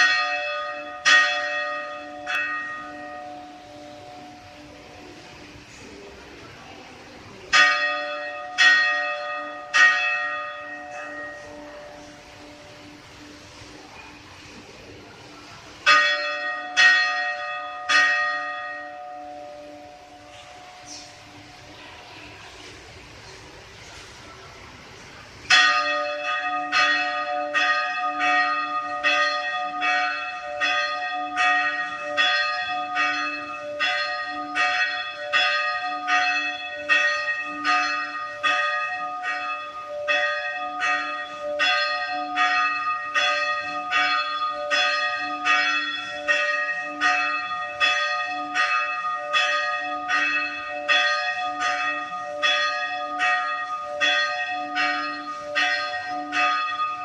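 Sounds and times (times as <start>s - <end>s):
church bell ringing: 0.0s - 6.0s, 7.2s - 22.7s, 25.4s - 57.0s.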